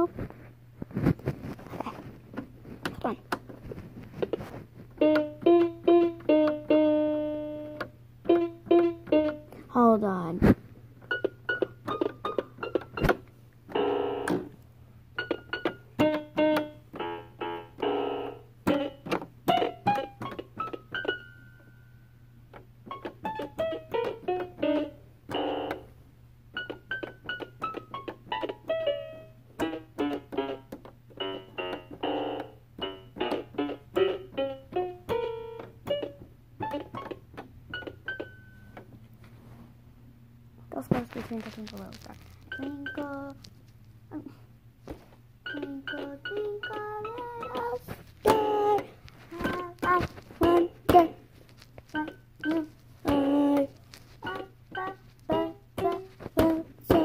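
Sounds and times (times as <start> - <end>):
child playing keyboard notes: 4.2 - 9.7, 11.0 - 39.0, 42.4 - 44.4, 45.3 - 57.0.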